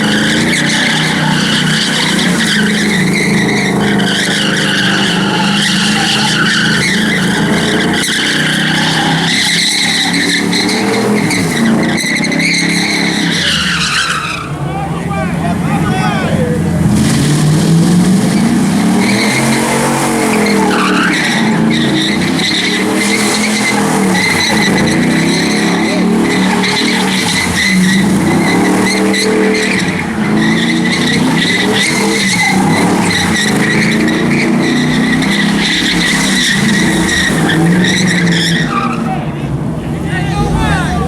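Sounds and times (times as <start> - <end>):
tyres squealing: 0.0 - 39.4
car engine revving: 0.0 - 41.0.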